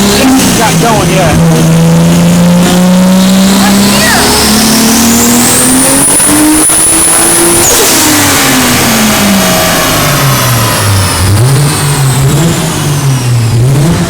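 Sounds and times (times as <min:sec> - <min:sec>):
car engine revving: 0:00.0 - 0:14.0
turbo whine: 0:00.0 - 0:14.0.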